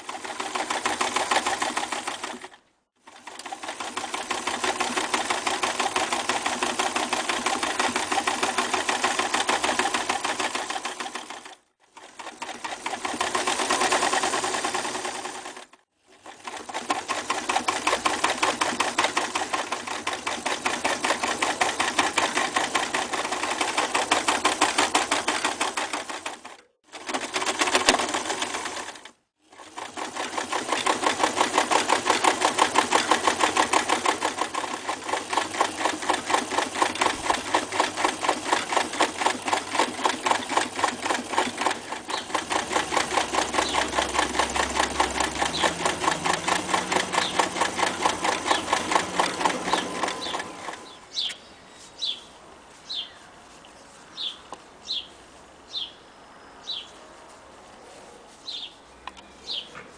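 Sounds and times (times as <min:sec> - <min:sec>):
sewing machine stitching: 0:00.0 - 0:51.0.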